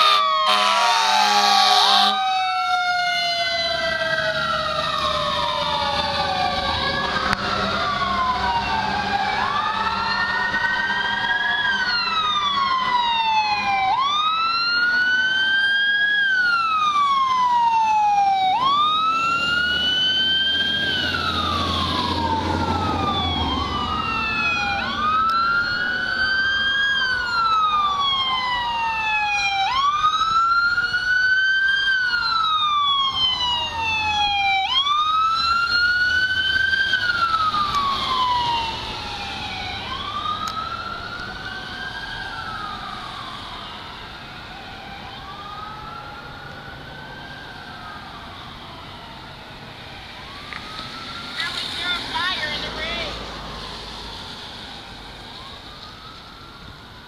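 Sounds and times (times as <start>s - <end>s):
electronic sirens wailing: 0.0s - 57.0s.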